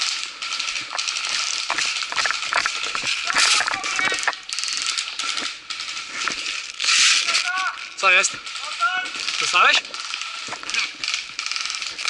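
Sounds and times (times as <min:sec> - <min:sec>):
gear and clothing rustling: 0:00.0 - 0:12.0.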